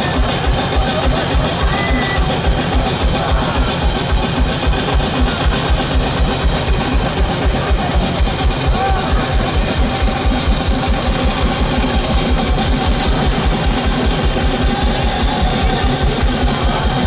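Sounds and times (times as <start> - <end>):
driving kick drum: 0.0 - 17.0.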